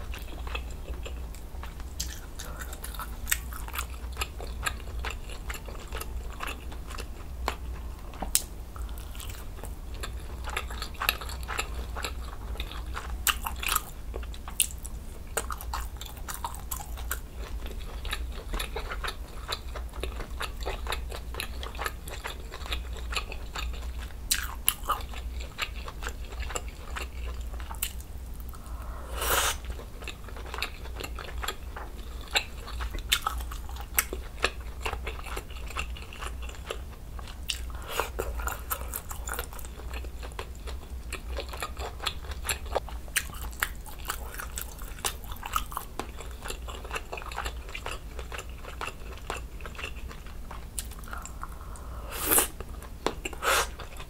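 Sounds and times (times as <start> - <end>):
close-miked chewing: 0.0 - 54.0.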